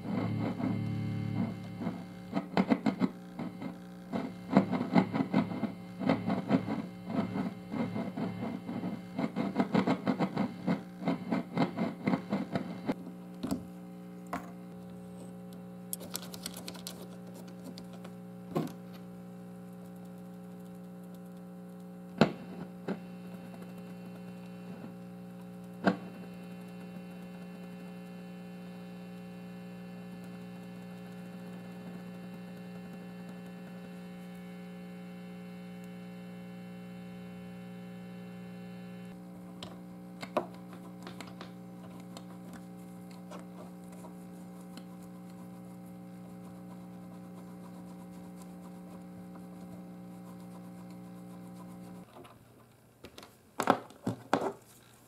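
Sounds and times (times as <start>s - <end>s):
guitar amp humming: 0.0s - 52.1s.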